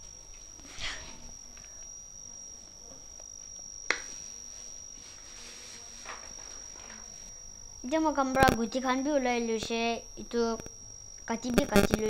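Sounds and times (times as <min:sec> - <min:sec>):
steady high-pitched whine: 0:00.0 - 0:12.0.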